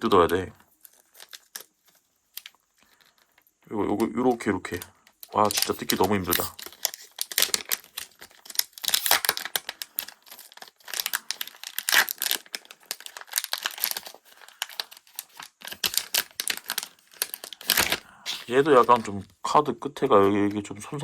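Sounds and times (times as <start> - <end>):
wrapper crinkling and tearing: 0.0 - 19.2.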